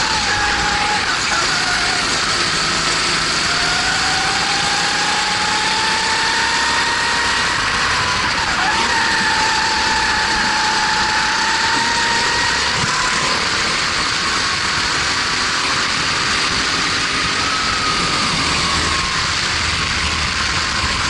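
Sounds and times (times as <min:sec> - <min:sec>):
kart engine under throttle: 0:00.0 - 0:21.0.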